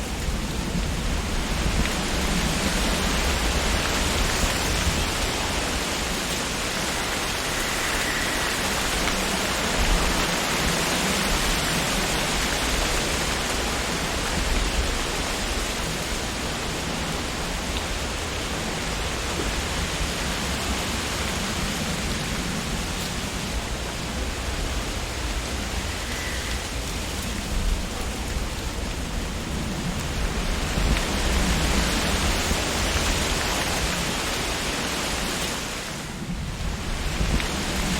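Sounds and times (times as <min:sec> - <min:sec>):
low wind rumble: 0:00.0 - 0:37.9
wind rustling tree leaves: 0:00.0 - 0:37.9.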